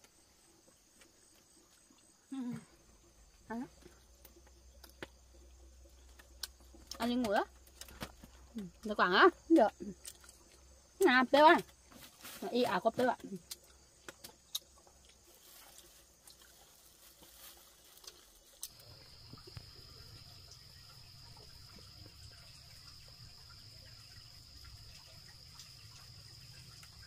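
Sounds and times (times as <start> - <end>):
faint cricket trill: 0.0 - 27.0.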